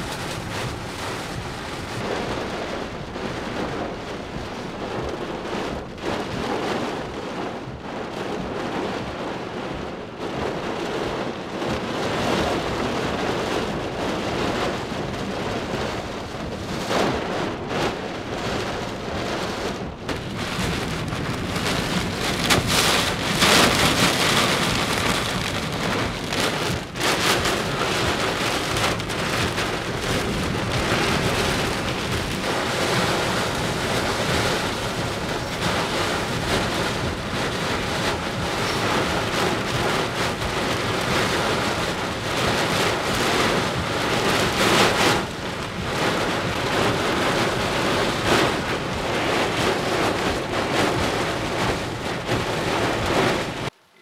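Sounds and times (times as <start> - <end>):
wind gusts: 0.0 - 53.7
heavy rain pouring on car: 0.0 - 54.0.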